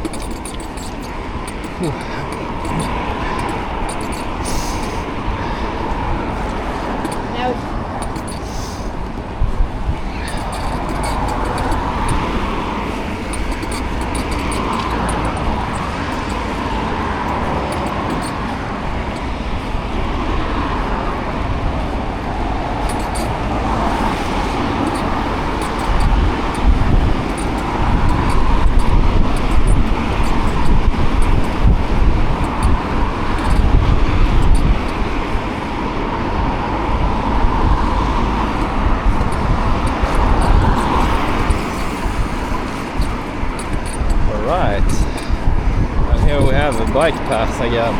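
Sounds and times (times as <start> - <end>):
road traffic noise: 0.0 - 47.9
wind rumble on microphone: 0.0 - 47.9.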